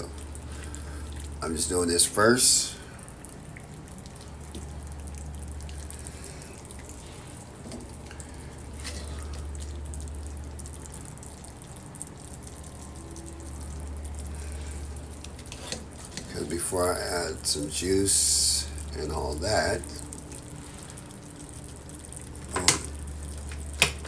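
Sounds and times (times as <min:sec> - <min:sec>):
stew simmering and bubbling: 0:00.0 - 0:24.0
low hum: 0:02.7 - 0:24.0.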